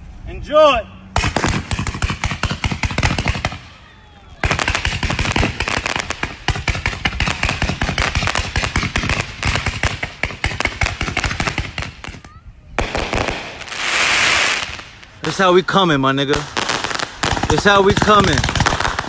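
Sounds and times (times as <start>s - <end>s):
firecrackers banging: 1.0s - 19.0s.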